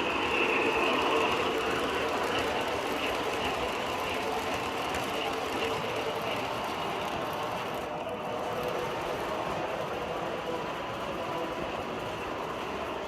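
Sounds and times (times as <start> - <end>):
model train running: 0.0 - 13.0.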